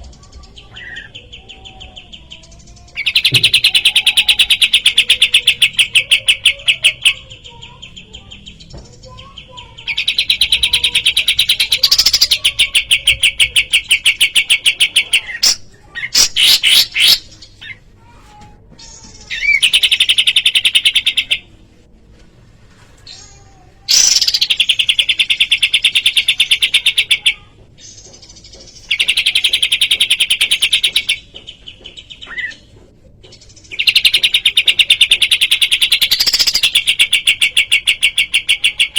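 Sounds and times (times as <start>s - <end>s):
bird chattering trills: 0.0s - 17.9s, 18.8s - 21.6s, 23.2s - 38.9s.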